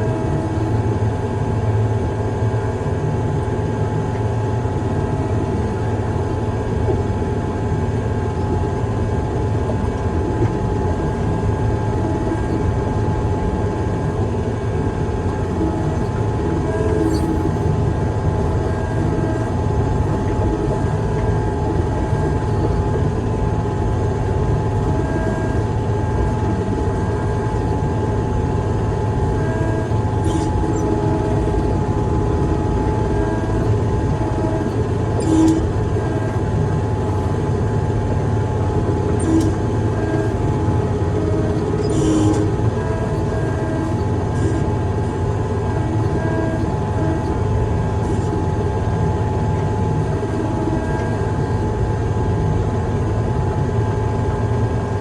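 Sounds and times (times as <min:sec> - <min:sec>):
heavy machine engine running: 0:00.0 - 0:55.0
steady whine: 0:00.0 - 0:55.0.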